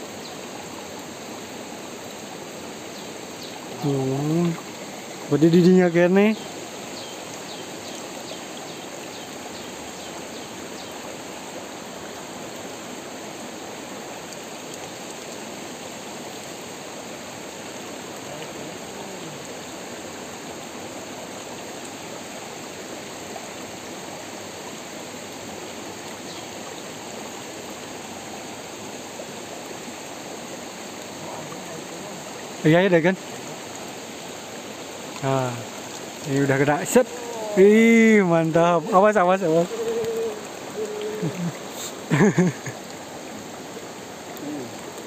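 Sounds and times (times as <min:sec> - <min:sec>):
rocky stream rushing and trickling: 0:00.0 - 0:45.0.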